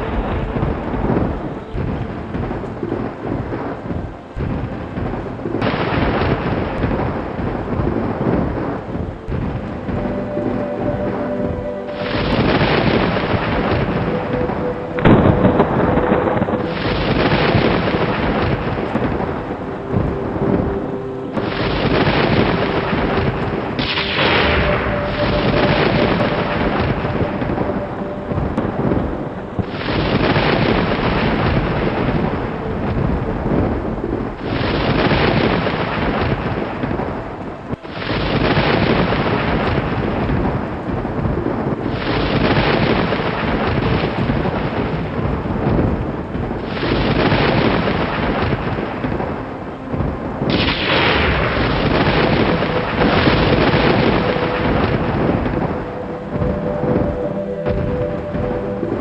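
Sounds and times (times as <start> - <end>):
thunder rumbling: 0.0 - 59.0.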